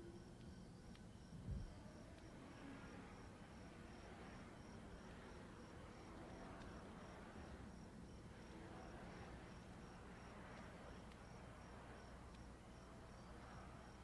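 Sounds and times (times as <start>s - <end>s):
cricket chirping: 0.0s - 14.0s
low background hum: 0.0s - 14.0s.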